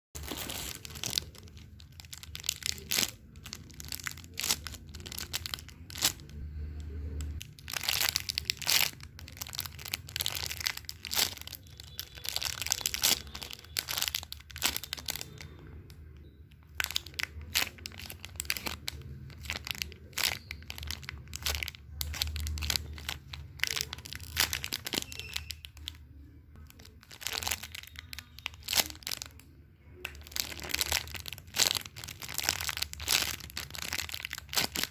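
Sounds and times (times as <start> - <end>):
crinkling and crunching handling: 0.1 - 34.9.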